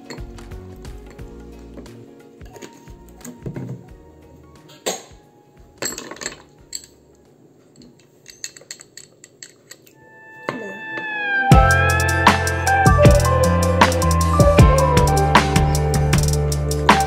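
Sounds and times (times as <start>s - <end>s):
music: 0.0s - 7.5s, 10.0s - 17.0s.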